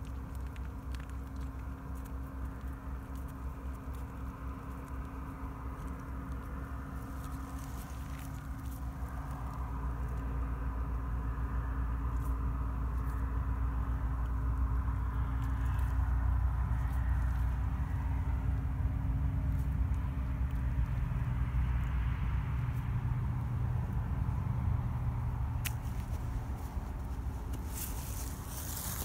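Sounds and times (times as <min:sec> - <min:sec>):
low rumble and hum: 0:00.0 - 0:29.0
wet chewing clicks: 0:00.0 - 0:29.0.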